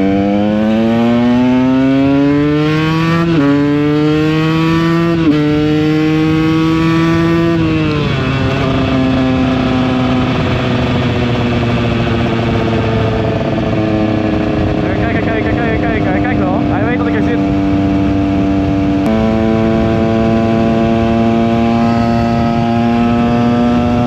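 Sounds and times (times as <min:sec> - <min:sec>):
two-stroke engine accelerating: 0:00.0 - 0:24.0.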